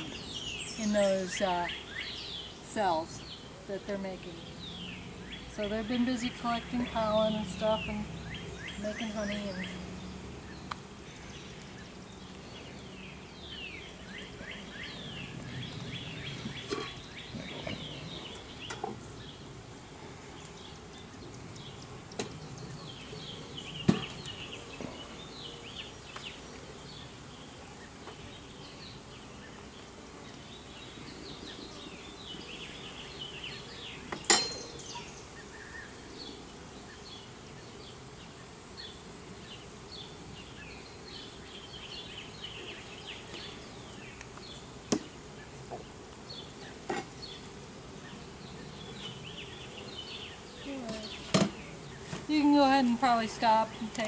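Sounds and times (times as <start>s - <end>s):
honeybees humming: 0.0s - 54.0s
small birds chirping: 0.0s - 54.0s.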